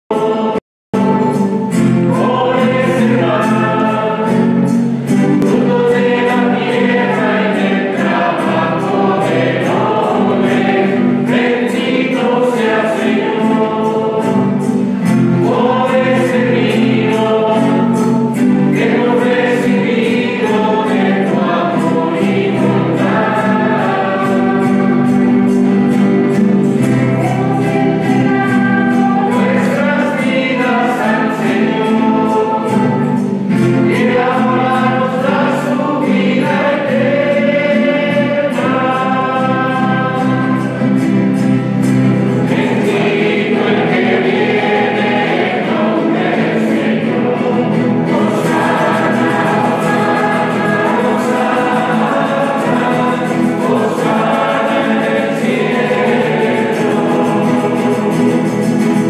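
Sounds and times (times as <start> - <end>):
choir singing a hymn: 0.1 - 59.0
instrumental accompaniment: 0.2 - 59.0.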